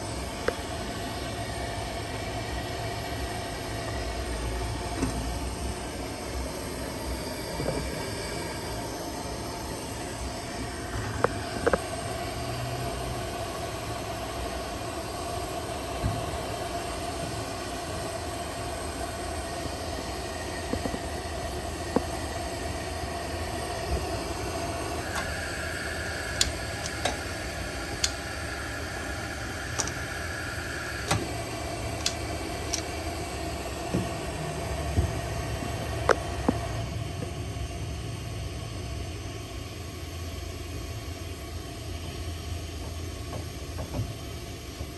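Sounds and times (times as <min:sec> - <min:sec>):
stove burner hissing: 0:00.0 - 0:44.9.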